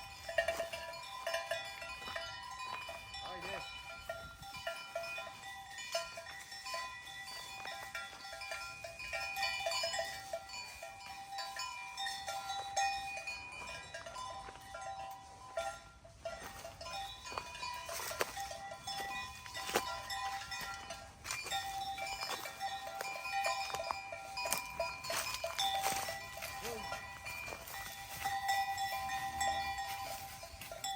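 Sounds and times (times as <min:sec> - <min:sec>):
metal bells clanking: 0:00.0 - 0:30.9.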